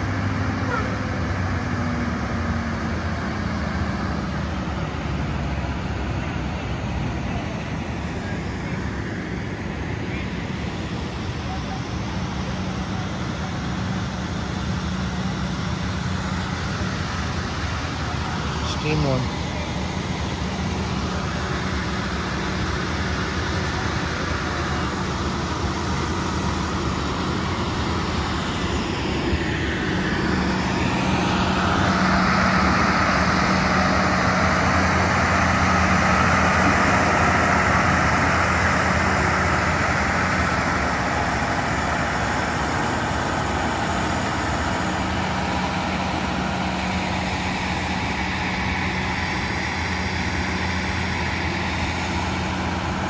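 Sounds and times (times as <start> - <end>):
locomotive low hum: 0.0 - 53.0
locomotive hiss: 3.7 - 53.0.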